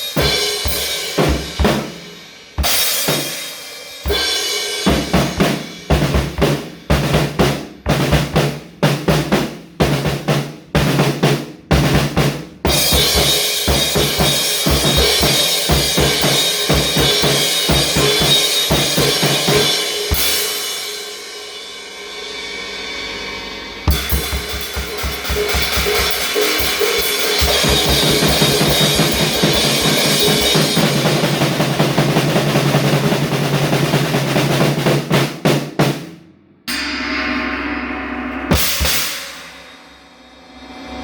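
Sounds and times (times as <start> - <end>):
hard drum hits: 0.0 - 21.1, 23.8 - 41.0.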